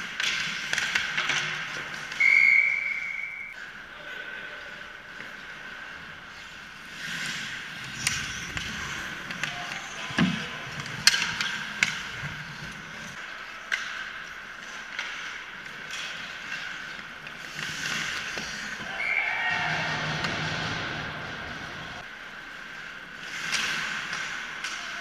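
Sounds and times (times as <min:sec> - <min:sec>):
hockey sticks and puck clacking: 0:00.0 - 0:03.8, 0:04.6 - 0:25.0
skates scraping ice: 0:00.0 - 0:25.0.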